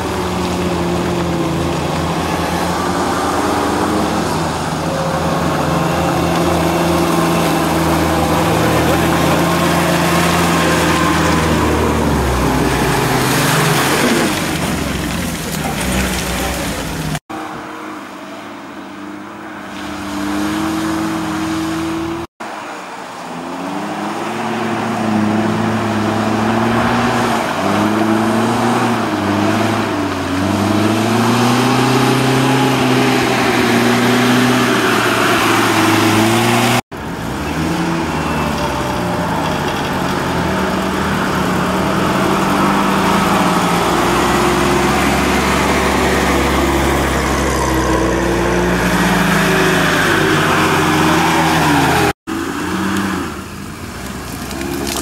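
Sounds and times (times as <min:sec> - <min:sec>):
off-road engines revving: 0:00.0 - 0:55.0.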